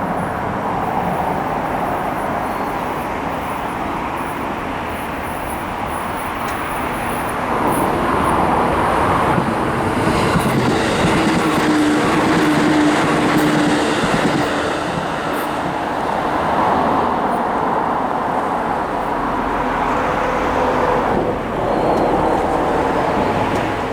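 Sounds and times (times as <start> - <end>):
train wheels rushing on rail: 0.0 - 23.9.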